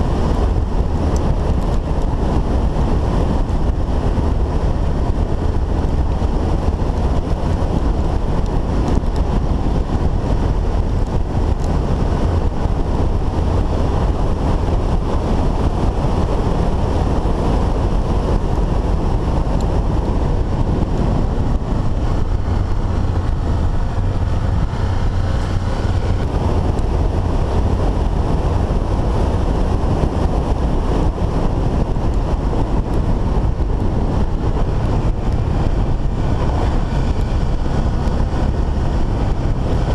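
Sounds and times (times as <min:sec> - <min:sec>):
motorcycle engine and tyre noise: 0:00.0 - 0:39.9
wind buffeting microphone: 0:00.0 - 0:39.9.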